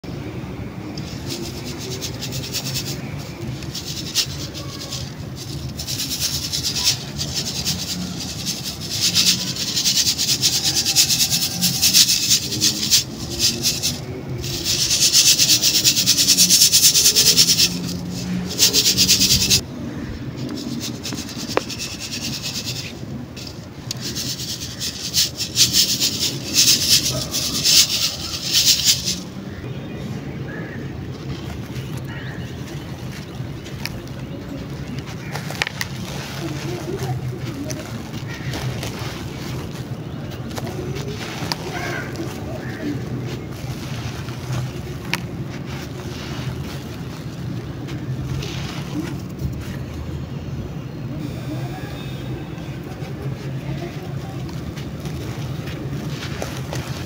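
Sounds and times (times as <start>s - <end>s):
powder shaken through a sieve: 1.0s - 19.6s, 20.4s - 29.4s, 33.0s - 50.1s, 52.8s - 57.0s.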